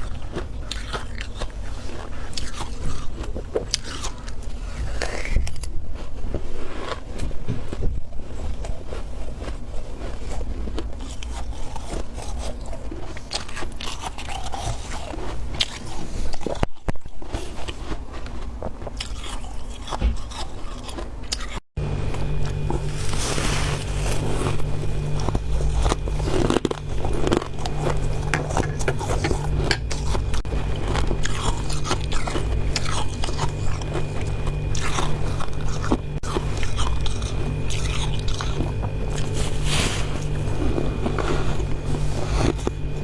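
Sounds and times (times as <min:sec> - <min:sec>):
chewing crunchy frost: 0:00.0 - 0:43.0.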